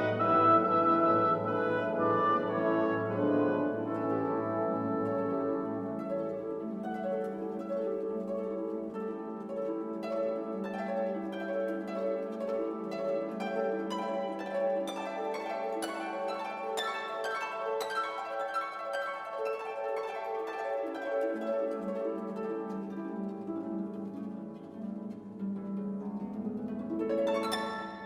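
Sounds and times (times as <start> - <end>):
plucked-string melody: 0.0 - 28.0.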